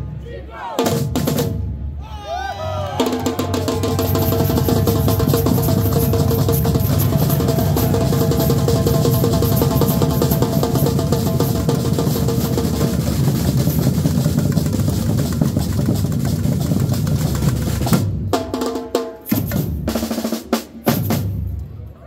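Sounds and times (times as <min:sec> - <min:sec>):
samba percussion band drumming: 0:00.8 - 0:01.8, 0:03.0 - 0:21.5.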